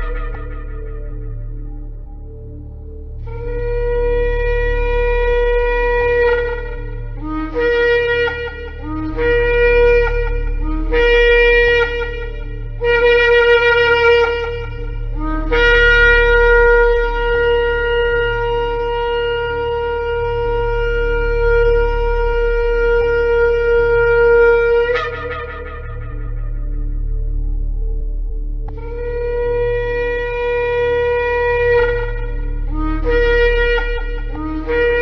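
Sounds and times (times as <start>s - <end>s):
shofar blasts: 0.0s - 2.6s, 3.2s - 27.9s, 28.7s - 35.0s
low hum: 0.0s - 35.0s.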